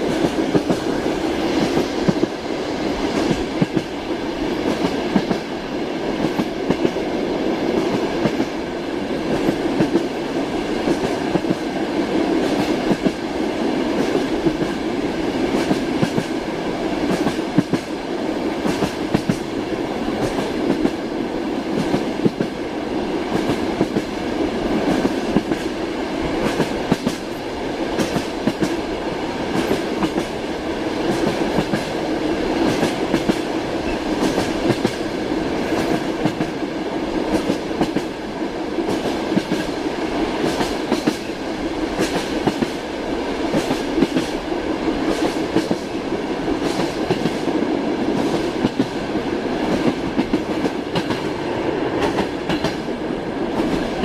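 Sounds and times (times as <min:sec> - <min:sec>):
train rolling rumble: 0:00.0 - 0:54.0.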